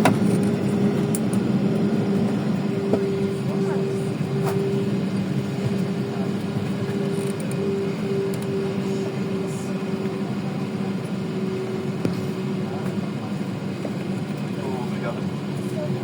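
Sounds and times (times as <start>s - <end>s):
constant humming tone: 0.0s - 16.0s
jet engines droning in cabin: 0.0s - 16.0s.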